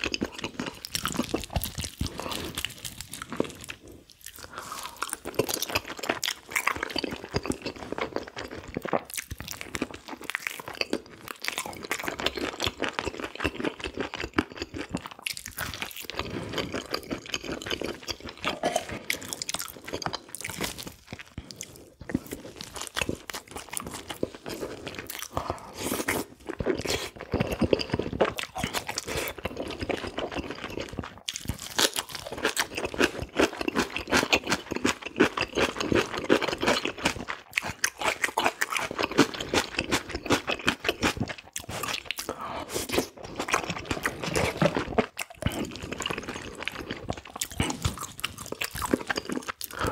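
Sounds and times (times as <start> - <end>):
person chewing and biting: 0.0 - 49.9.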